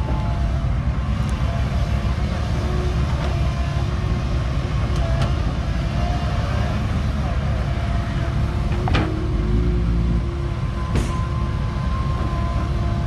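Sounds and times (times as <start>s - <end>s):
diesel excavator rumbling: 0.0s - 13.0s.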